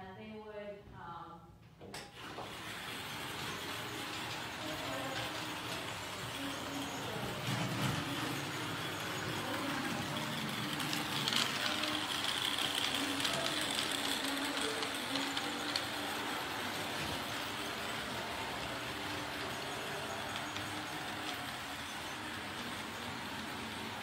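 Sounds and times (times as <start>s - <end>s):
toy train running on track: 2.2s - 24.0s.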